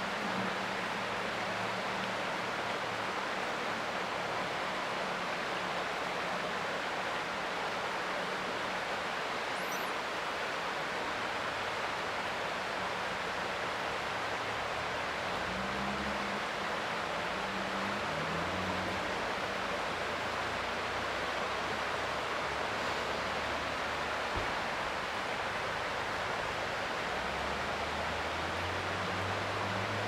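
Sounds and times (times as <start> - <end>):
creek water flowing: 0.0 - 30.0.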